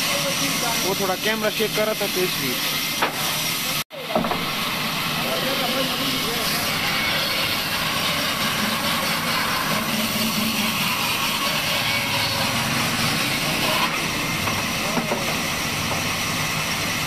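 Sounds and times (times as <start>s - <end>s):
band saw cutting timber: 0.0s - 17.0s.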